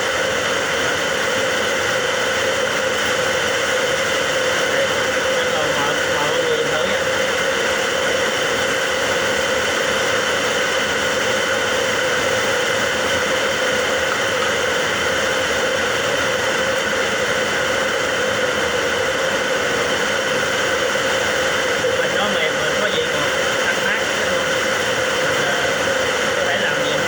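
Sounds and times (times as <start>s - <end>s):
heavy rain hiss: 0.0s - 27.0s.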